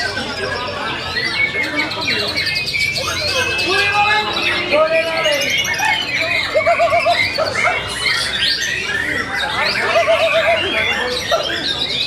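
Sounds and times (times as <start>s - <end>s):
birds singing and calling: 0.0s - 12.0s.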